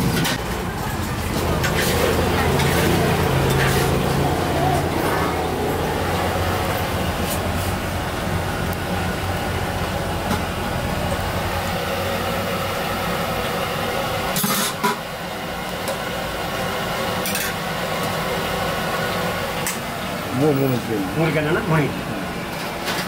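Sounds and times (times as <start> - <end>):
background din of food stall: 0.0 - 23.0.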